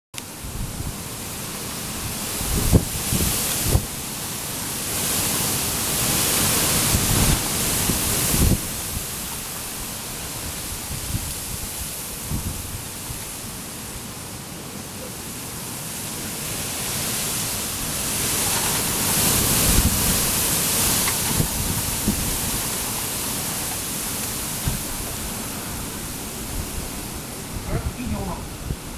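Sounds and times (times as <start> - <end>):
wind buffeting microphone: 0.3 - 14.2, 15.2 - 28.9
strong wind gusts: 0.3 - 28.9.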